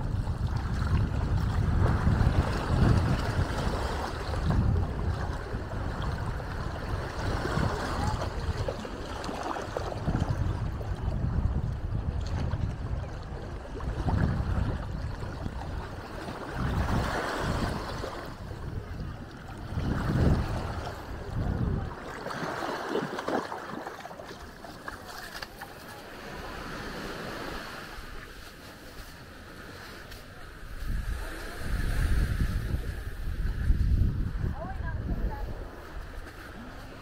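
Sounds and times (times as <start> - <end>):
wind gusting against microphone: 0.0 - 25.0, 25.6 - 37.0
small waves washing over shore: 0.0 - 37.0.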